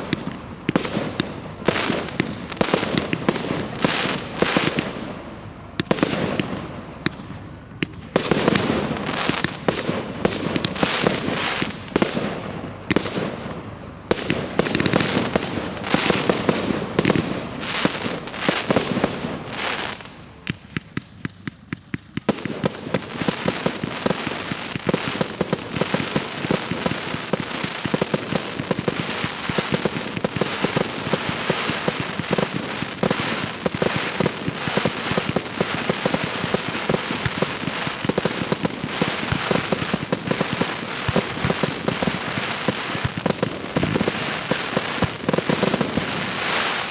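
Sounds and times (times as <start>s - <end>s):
fireworks bangs: 0.0s - 5.2s, 5.8s - 46.9s
fireworks crackling: 0.0s - 46.9s.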